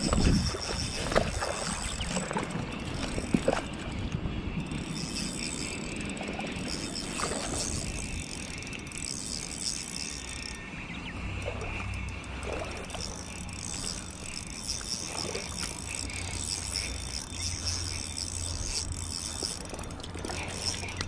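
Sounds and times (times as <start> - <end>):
fishing reel gears whirring: 0.0 - 21.0.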